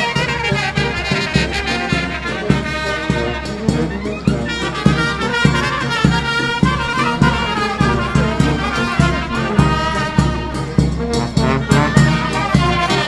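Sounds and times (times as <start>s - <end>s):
brass-led folk band music: 0.0s - 13.0s.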